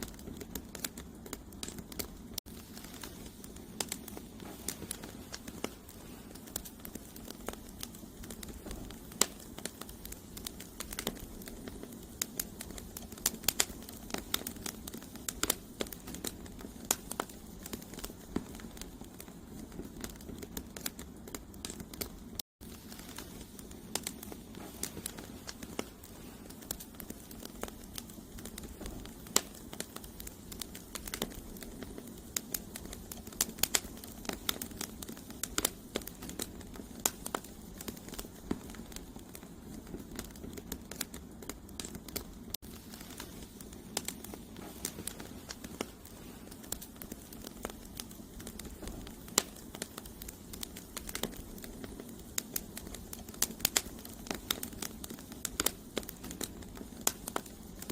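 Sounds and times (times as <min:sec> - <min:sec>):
campfire crackling and popping: 0:00.0 - 0:57.9
low rush of flames: 0:00.0 - 0:57.9.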